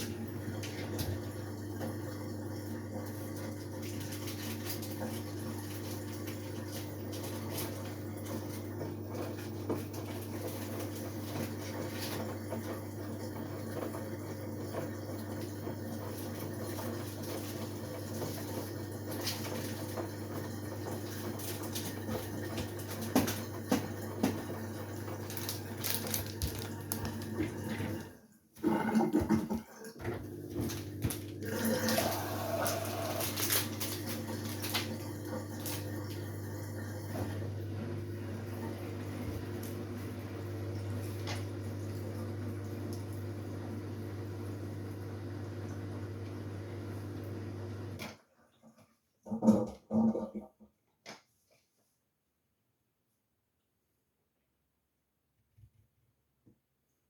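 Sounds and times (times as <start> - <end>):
washing machine running: 0.0 - 48.4.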